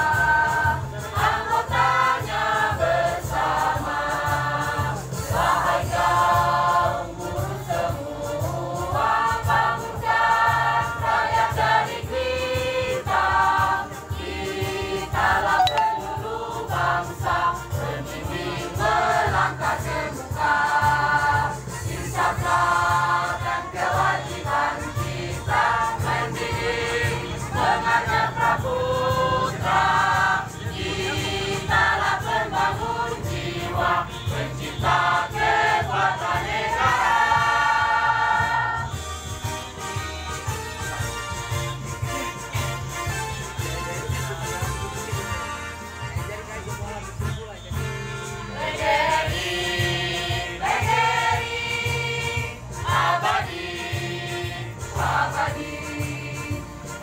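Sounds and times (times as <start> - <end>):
choir singing long held notes: 0.0 - 39.0, 48.5 - 57.0.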